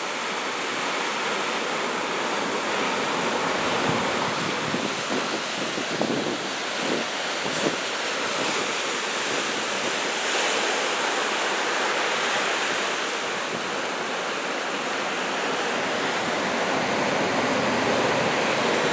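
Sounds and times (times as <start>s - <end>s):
heavy surf breaking: 0.0s - 18.9s.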